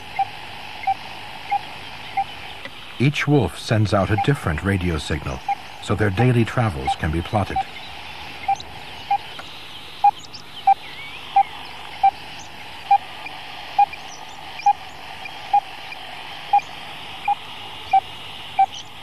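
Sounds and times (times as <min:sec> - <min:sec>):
telemetry receiver beeping: 0:00.0 - 0:02.3, 0:03.7 - 0:12.2, 0:12.9 - 0:18.9
static hiss: 0:00.0 - 0:19.0.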